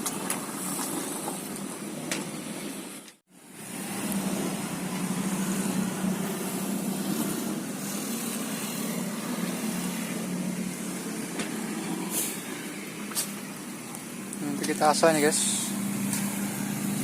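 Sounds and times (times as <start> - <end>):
sawmill machine hum: 0.0 - 17.0.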